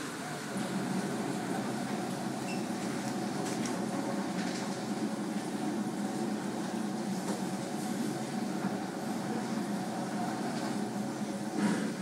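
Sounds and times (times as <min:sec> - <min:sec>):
car wash machinery rumble: 0:00.0 - 0:12.0.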